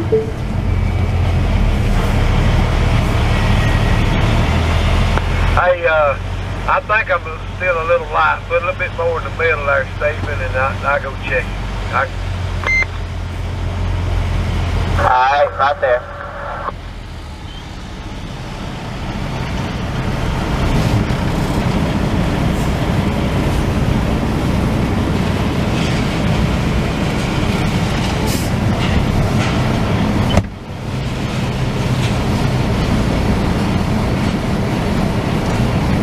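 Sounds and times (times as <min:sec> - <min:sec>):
truck engine and road noise: 0:00.0 - 0:36.0.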